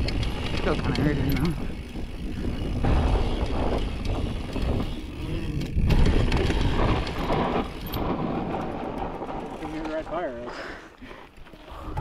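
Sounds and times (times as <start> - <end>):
bike clicks and rattles: 0.0 - 12.0
bike tyres rumbling on gravel: 0.0 - 12.0.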